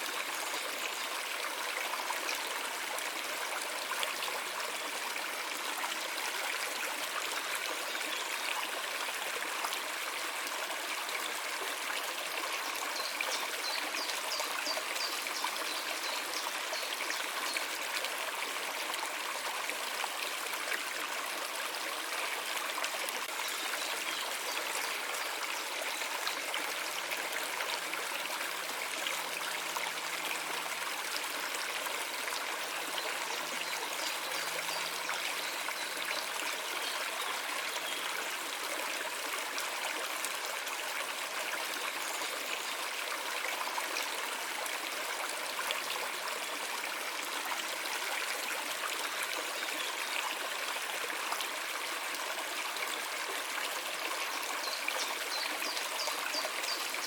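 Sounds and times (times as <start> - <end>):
stream of water running: 0.0 - 57.0.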